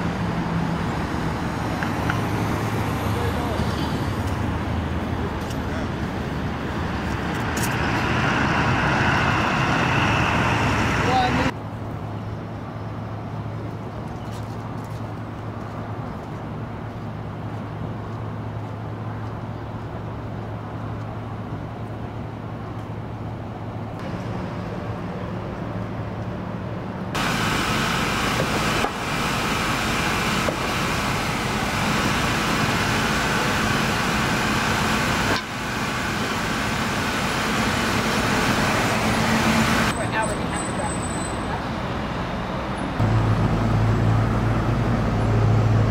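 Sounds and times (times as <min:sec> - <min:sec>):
street traffic engines and road noise: 0:00.0 - 0:45.9.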